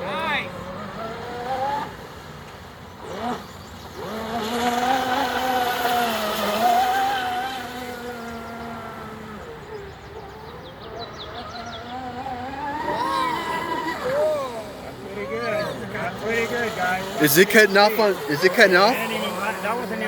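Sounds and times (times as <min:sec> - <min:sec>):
electric motor whining: 0:03.0 - 0:20.0.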